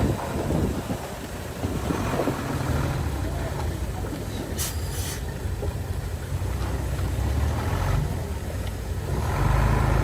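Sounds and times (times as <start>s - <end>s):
heavy machinery diesel engine: 0.0s - 10.0s.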